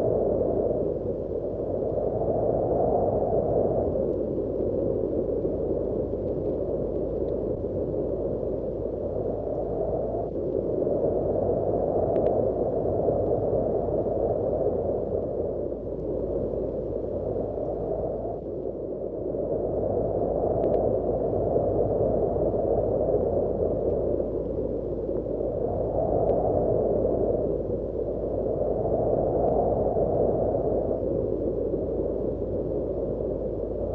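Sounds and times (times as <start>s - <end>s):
rushing wind: 0.0s - 33.9s.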